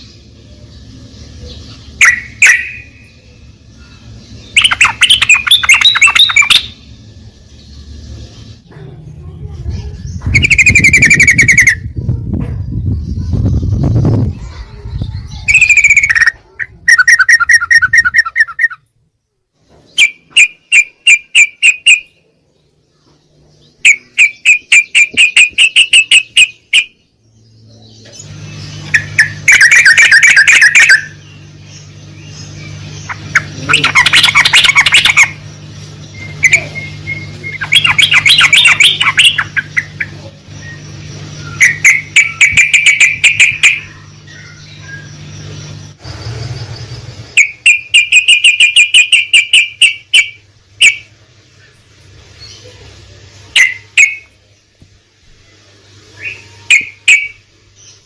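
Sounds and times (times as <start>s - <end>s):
bird singing pulsed notes: 0.0s - 54.8s, 55.4s - 58.0s
low steady hum: 0.0s - 58.0s.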